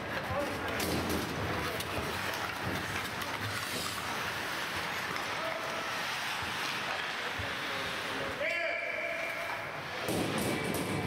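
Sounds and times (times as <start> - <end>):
skates scraping ice: 0.0 - 11.0.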